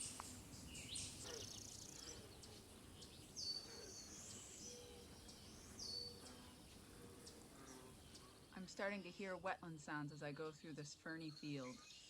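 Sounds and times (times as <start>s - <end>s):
woodland birdsong: 0.0s - 12.0s.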